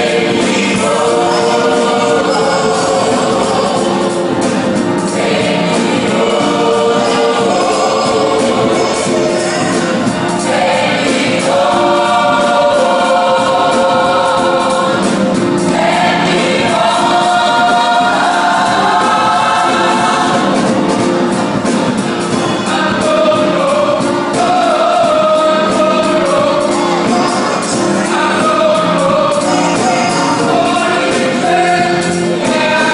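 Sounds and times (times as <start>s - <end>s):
gospel choir singing in harmony: 0.0s - 32.9s.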